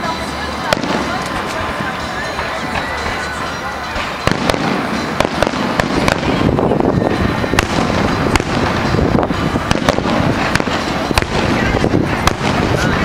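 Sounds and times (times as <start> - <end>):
fireworks rumble and crackle: 0.0 - 13.0
fireworks sharp bangs: 0.5 - 13.0.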